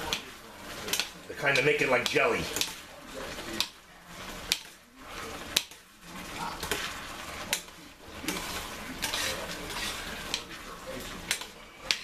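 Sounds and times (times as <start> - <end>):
metal spoon stirring in saucepan: 0.0 - 12.0.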